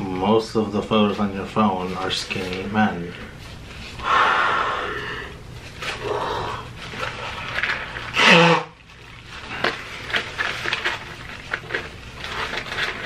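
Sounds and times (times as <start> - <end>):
paper rustling: 0.0 - 4.0, 5.5 - 13.0.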